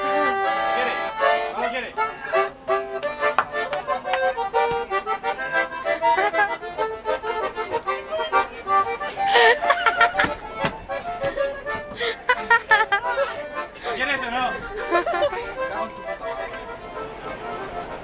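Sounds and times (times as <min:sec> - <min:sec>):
piano accordion playing a tune: 0:00.0 - 0:18.0.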